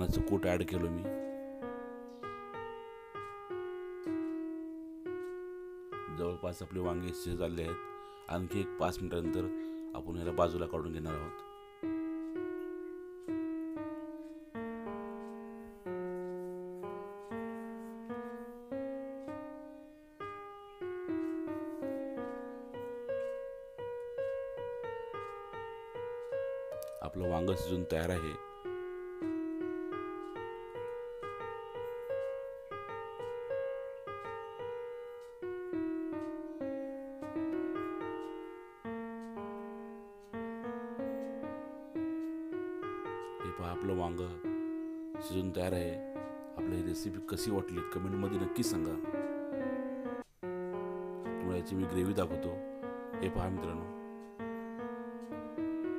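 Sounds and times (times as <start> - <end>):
piano music: 0.0 - 55.9.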